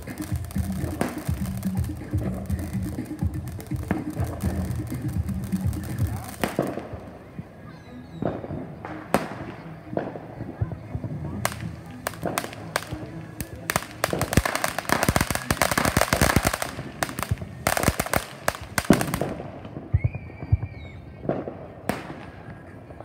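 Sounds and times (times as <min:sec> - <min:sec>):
firecrackers popping: 0:00.0 - 0:23.0.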